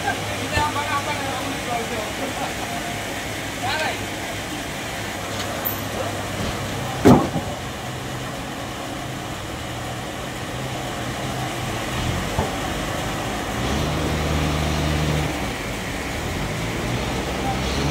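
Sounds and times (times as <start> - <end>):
engine hum: 0.0 - 17.9.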